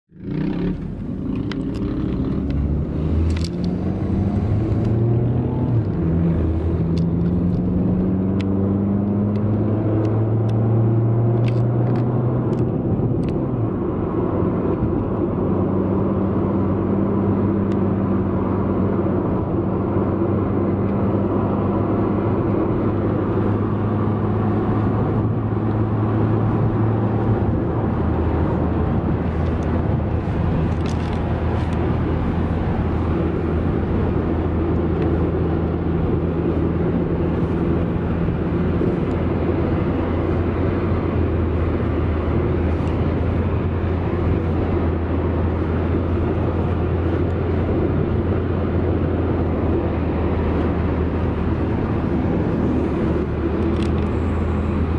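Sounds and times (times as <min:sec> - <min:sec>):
bus engine drone: 0:00.1 - 0:54.9.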